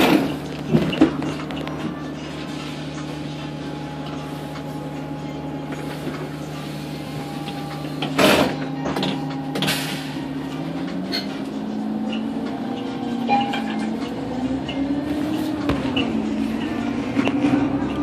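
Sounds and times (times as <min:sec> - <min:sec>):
bus diesel engine idling: 0:00.0 - 0:18.0.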